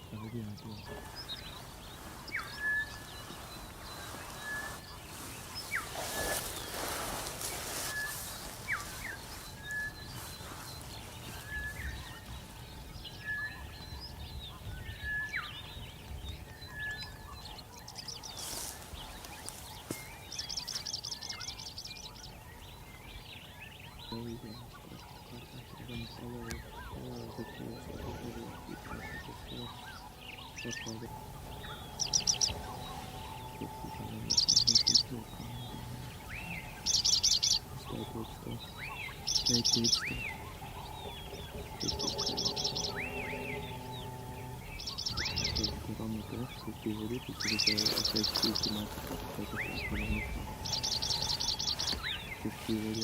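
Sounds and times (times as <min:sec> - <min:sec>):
rapid high bird trills: 0:00.0 - 0:15.8, 0:16.6 - 0:53.0
lower pulsed bird call: 0:00.0 - 0:53.0.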